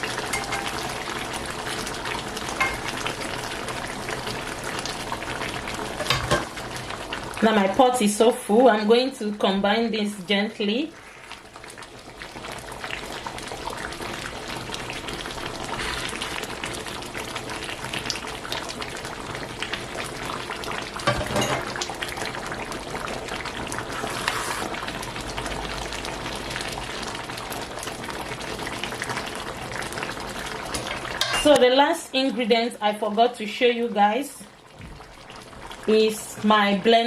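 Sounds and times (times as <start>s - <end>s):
pot of soup bubbling: 0.0s - 8.0s, 10.8s - 32.2s, 34.4s - 37.0s.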